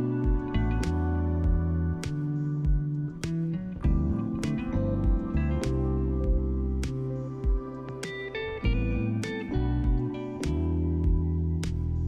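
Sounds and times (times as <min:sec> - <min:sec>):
gentle instrumental music: 0:00.0 - 0:12.0.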